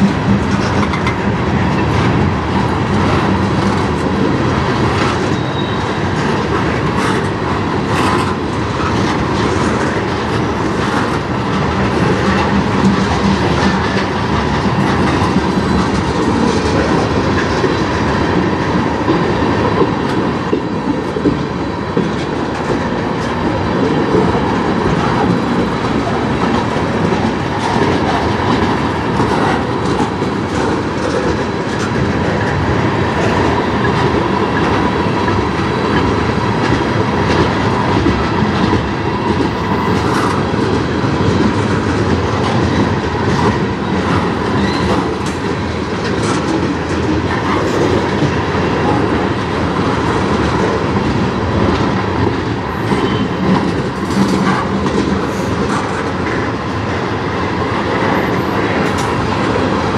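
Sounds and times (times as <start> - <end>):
train rumble: 0.0 - 59.9
train wheels clacking over rail joints: 0.0 - 59.9.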